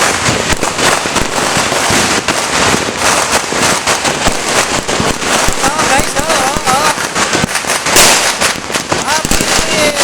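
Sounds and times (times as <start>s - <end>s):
firecrackers crackling and popping: 0.0s - 10.0s.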